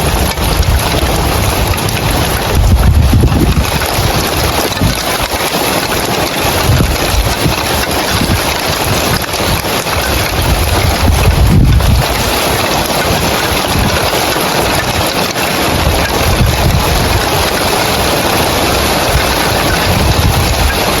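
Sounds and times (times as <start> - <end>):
wind buffeting microphone: 0.0 - 5.6, 6.5 - 21.0
heavy rain on roof tiles: 0.0 - 21.0.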